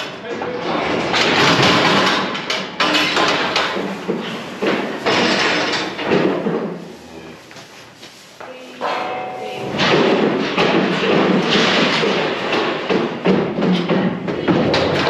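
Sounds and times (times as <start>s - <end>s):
steel cattle crush clanging: 0.0s - 15.0s.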